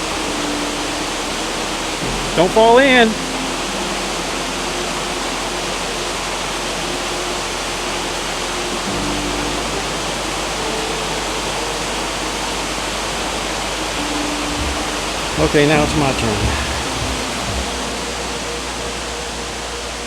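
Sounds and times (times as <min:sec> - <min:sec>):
faint held music tones: 0:00.0 - 0:20.0
waterfall rushing: 0:00.0 - 0:20.0.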